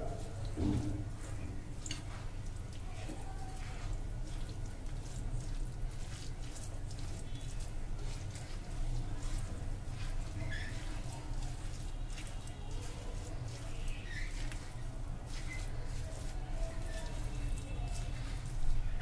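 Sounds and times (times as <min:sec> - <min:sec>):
hand squelching wet mixture: 0:00.0 - 0:19.0.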